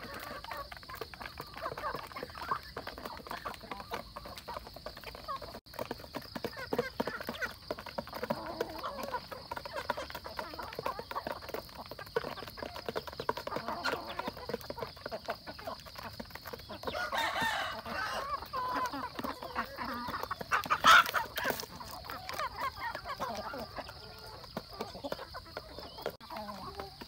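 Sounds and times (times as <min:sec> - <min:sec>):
chickens clucking and calling: 0:00.0 - 0:27.0
chickens pecking: 0:00.0 - 0:27.0.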